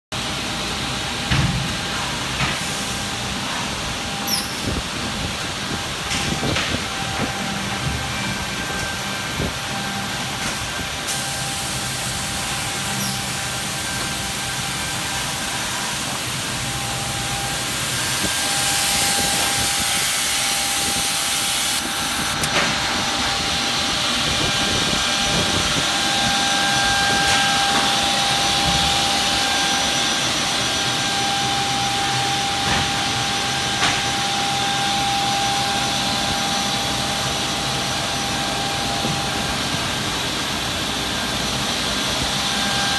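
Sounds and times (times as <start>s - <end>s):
machine drone with whine: 0.2s - 42.9s.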